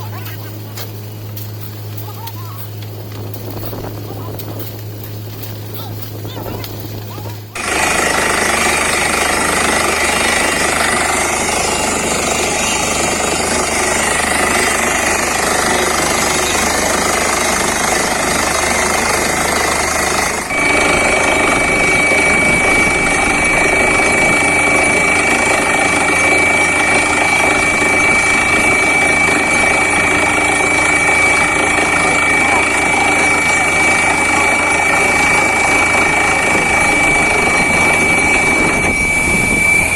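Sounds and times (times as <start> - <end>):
drilling rig clatter and whine: 0.0 - 39.9.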